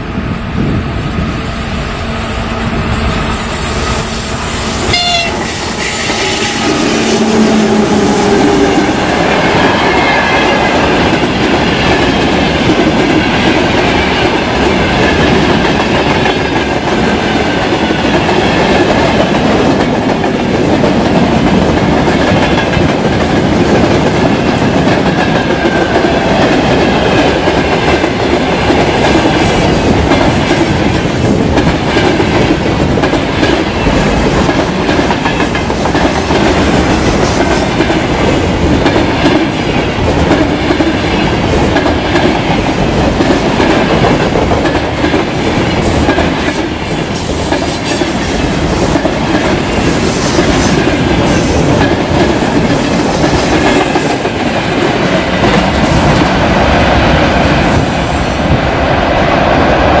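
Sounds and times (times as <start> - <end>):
train wheels rumbling on rails: 0.0 - 60.0
clickety-clack over rail joints: 10.3 - 58.9.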